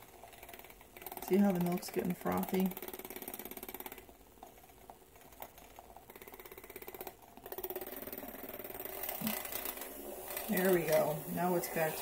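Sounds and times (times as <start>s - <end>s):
milk frother buzzing: 0.0s - 12.0s.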